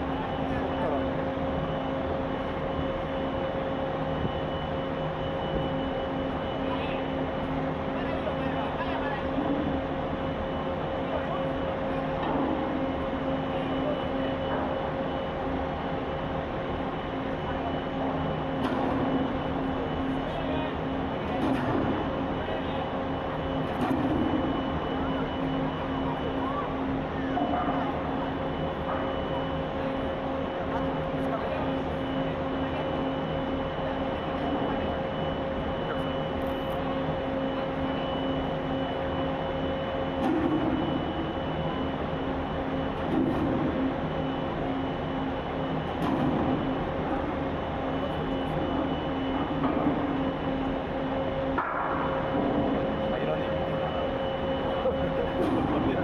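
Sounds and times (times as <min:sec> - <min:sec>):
constant whine: 0:00.0 - 0:56.0
ship machinery hum: 0:00.0 - 0:56.0.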